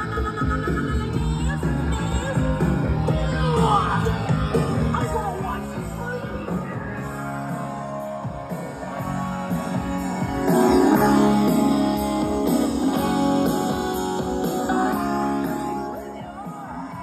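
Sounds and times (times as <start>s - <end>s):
rock song over car stereo: 0.0s - 17.0s.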